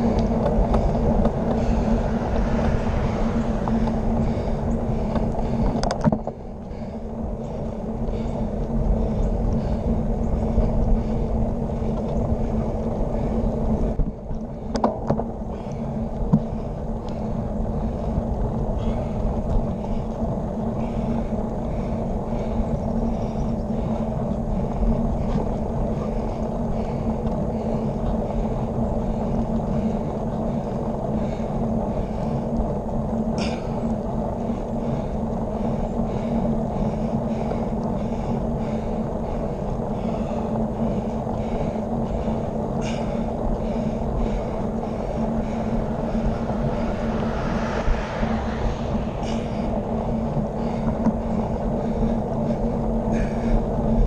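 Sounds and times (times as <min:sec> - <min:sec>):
bike clicks and rattles: 0:00.0 - 0:02.0, 0:03.6 - 0:45.7
tyres rolling on asphalt: 0:00.0 - 0:46.9, 0:49.2 - 0:54.0
wind on microphone: 0:00.0 - 0:54.0.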